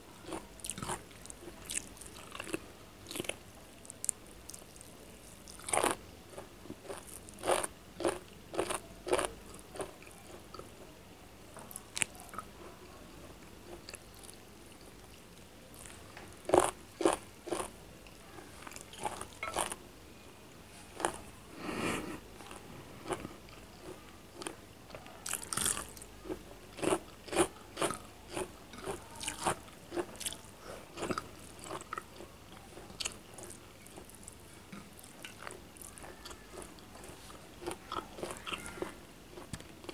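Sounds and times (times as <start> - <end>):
person chewing and crunching: 0.2 - 10.8, 13.6 - 19.8, 20.9 - 21.2, 22.4 - 39.9.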